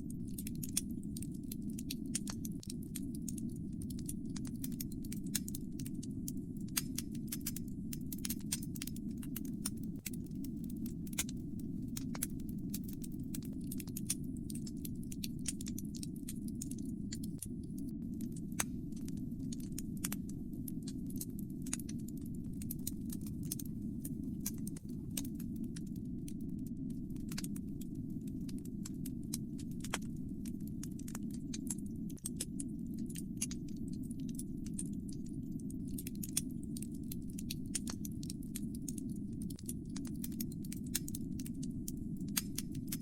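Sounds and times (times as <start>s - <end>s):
fire snapping and popping: 0.0s - 43.0s
low rumble of flames: 0.0s - 43.0s.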